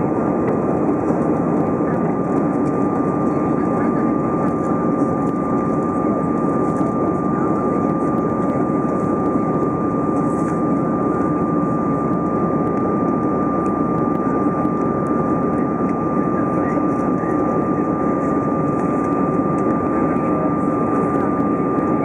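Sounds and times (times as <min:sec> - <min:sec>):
engine and airflow roar: 0:00.0 - 0:22.0
steady high whine: 0:00.0 - 0:22.0.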